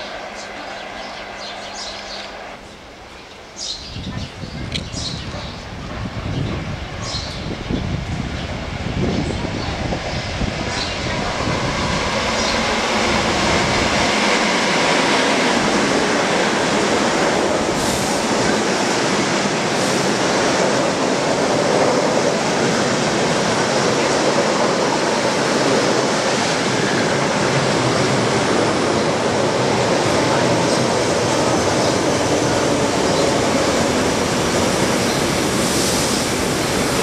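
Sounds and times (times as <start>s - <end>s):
train wheels rumbling past: 5.7s - 37.0s.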